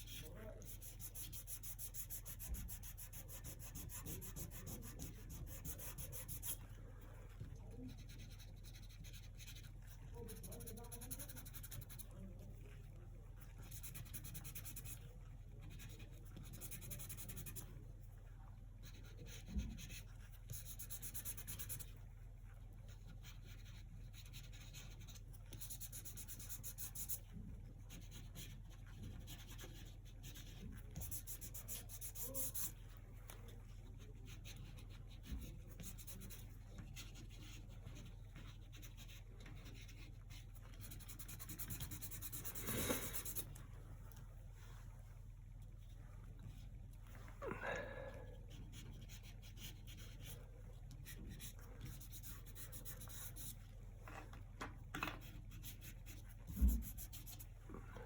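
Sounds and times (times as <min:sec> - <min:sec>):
paintbrush strokes: 0:00.0 - 0:18.1, 0:18.8 - 0:47.4.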